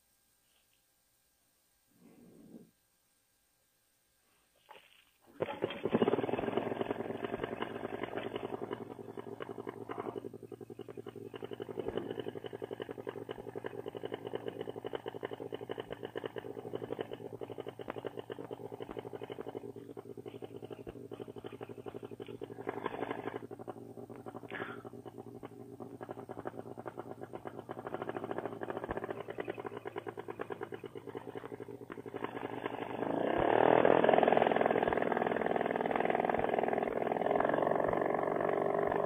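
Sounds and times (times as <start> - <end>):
paramotor engine and propeller: 5.4 - 39.0.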